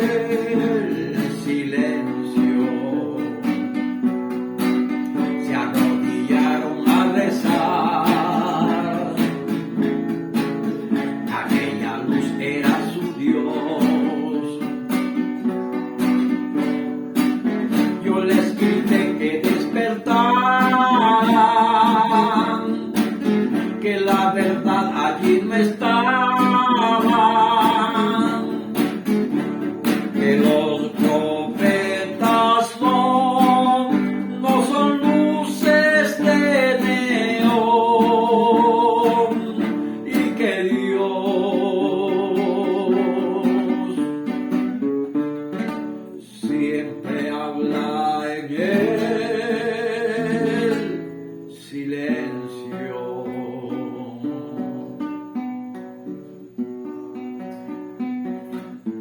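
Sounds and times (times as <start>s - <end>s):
acoustic guitar plucked and strummed: 0.0s - 59.0s.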